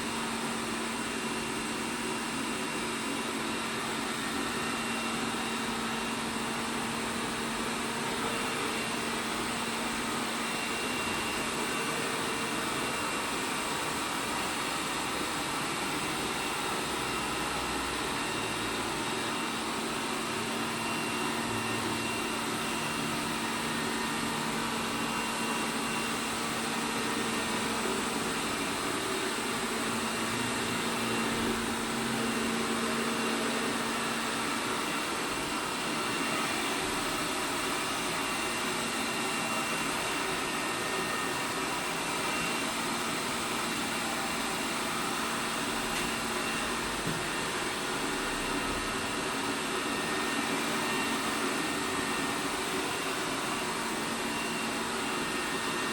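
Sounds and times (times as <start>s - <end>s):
robot vacuum cleaner whirring: 2.6s - 55.9s.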